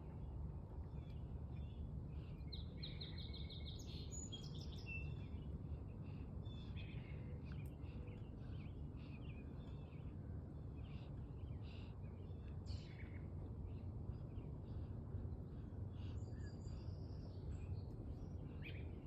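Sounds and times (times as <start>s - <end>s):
low background rumble: 0.0s - 19.0s
small birds chirping: 0.9s - 19.0s.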